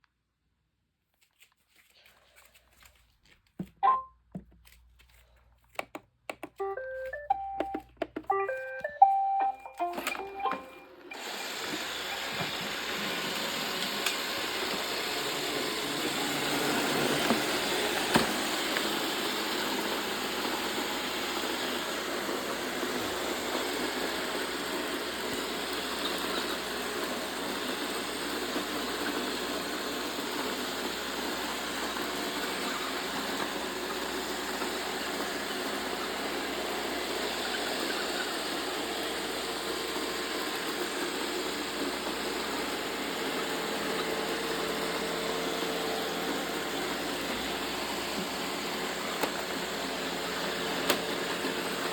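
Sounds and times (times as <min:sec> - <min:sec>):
robot vacuum whirring: 0:09.9 - 0:51.9.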